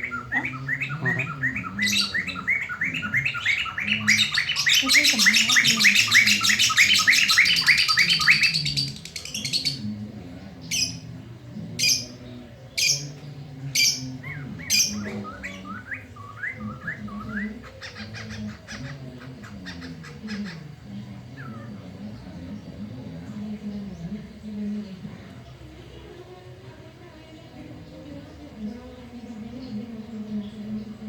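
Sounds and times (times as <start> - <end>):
laughingthrush singing: 0.0 - 31.0.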